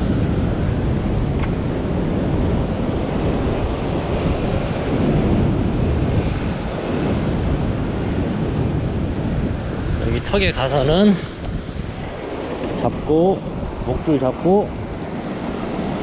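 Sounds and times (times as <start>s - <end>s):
ocean surf breaking on rocks: 0.0s - 16.0s
wind buffeting microphone: 0.0s - 16.0s.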